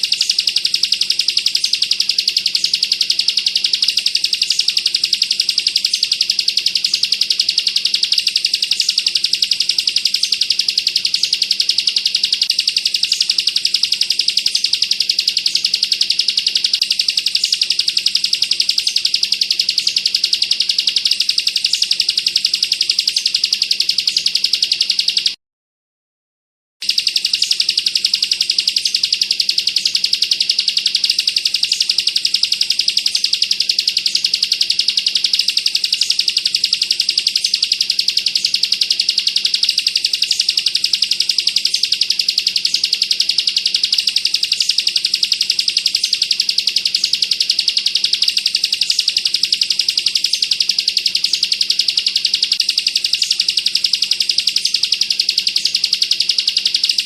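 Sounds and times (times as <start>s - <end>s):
bird rapid rattling song: 0.0s - 25.4s, 26.8s - 57.0s.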